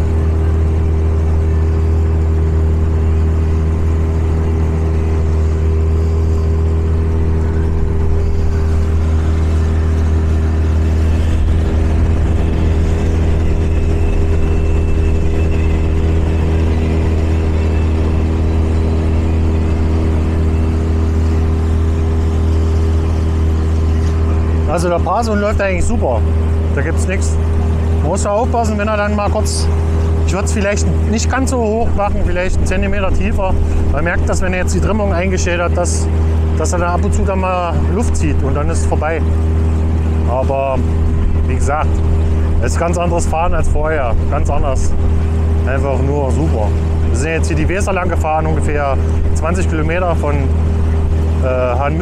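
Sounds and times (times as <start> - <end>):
outboard motor running: 0.0 - 52.0
water rushing past hull: 0.0 - 52.0.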